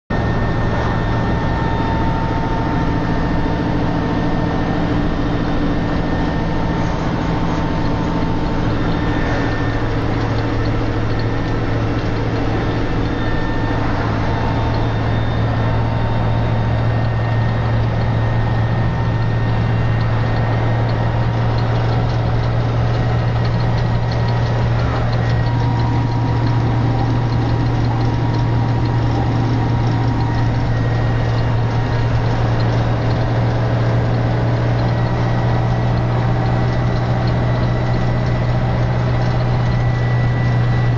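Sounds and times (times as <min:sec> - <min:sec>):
diesel truck engine running: 0:00.1 - 0:40.9
road noise: 0:00.1 - 0:40.9.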